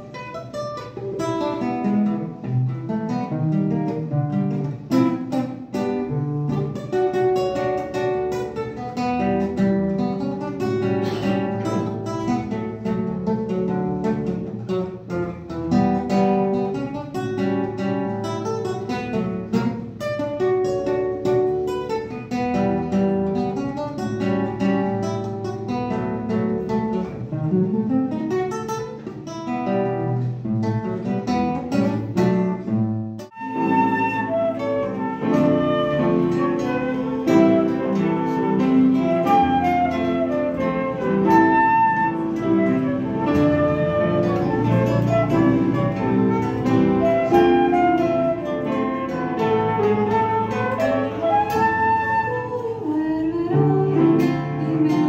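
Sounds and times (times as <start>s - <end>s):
fingerpicked classical guitar: 0.0s - 55.0s.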